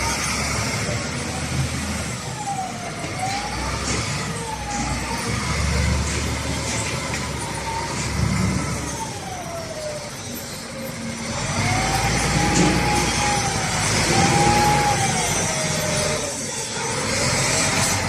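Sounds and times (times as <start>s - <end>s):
wheel loader diesel engine revving: 0.0s - 18.0s.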